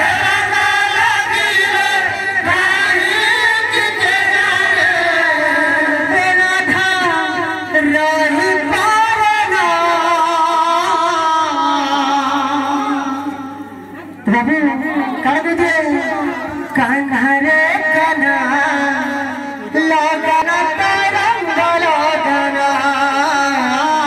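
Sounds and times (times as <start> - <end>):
men singing devotional song: 0.0 - 24.0.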